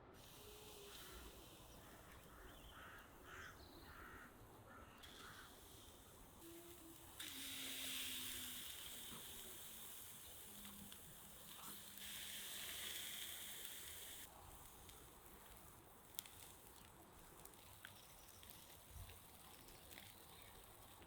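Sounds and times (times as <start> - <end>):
fish sizzling on a grill: 0.2 - 4.2, 5.0 - 21.0
small crackles: 0.2 - 21.0.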